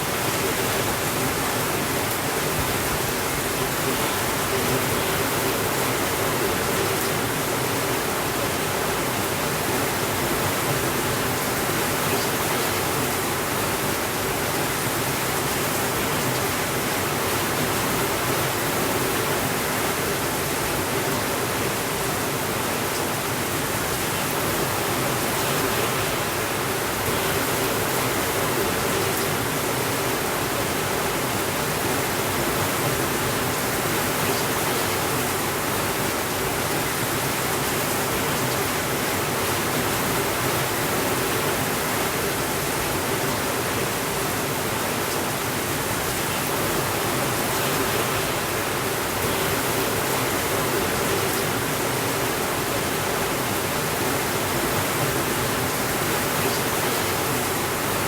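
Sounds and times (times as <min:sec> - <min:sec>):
heavy rain on a window: 0:00.0 - 0:58.0.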